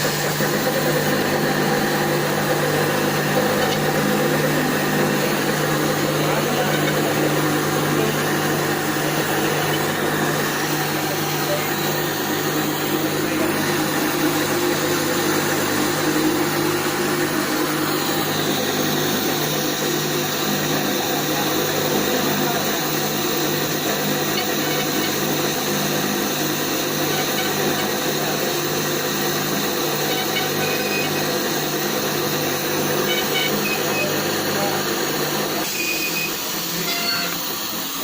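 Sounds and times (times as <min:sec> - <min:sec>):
machine humming and hissing: 0:00.0 - 0:38.0.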